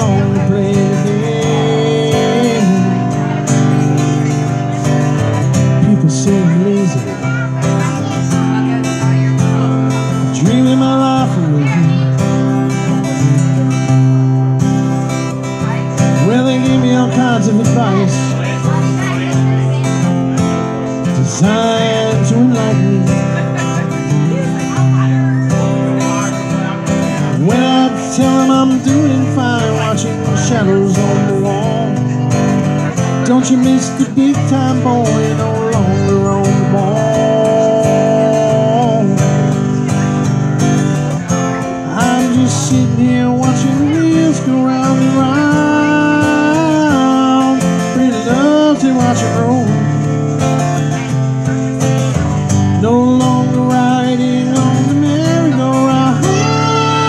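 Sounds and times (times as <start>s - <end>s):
acoustic guitar strumming: 0.0s - 57.0s
man singing into a microphone: 0.0s - 57.0s.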